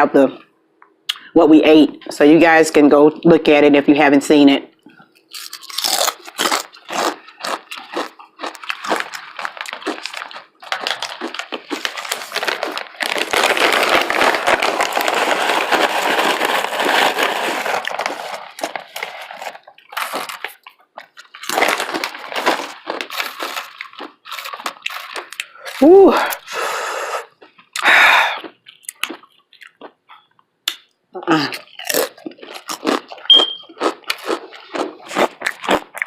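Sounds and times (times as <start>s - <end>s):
chewing crunchy chips: 4.9s - 26.6s, 27.2s - 36.0s.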